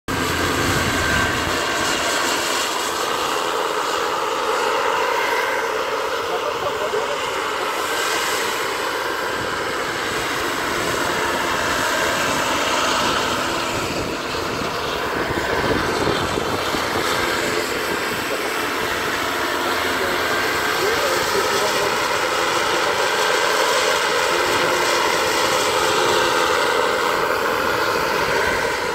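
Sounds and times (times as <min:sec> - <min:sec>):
model helicopter whine: 0:00.1 - 0:28.9.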